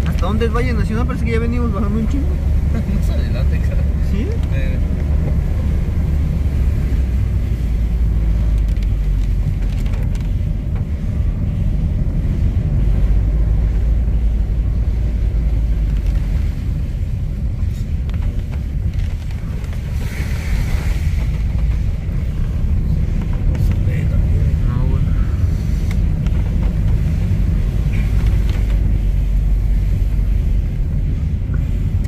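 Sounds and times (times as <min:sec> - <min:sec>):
car driving rumble from inside: 0:00.0 - 0:32.0.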